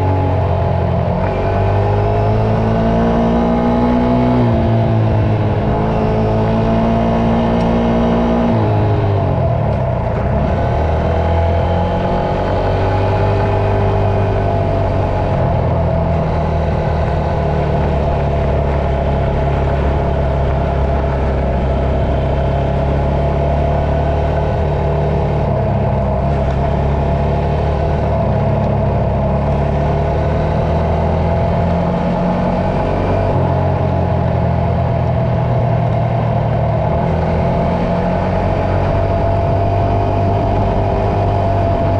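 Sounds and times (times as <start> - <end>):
dirt bike engine running: 8.3 - 41.9.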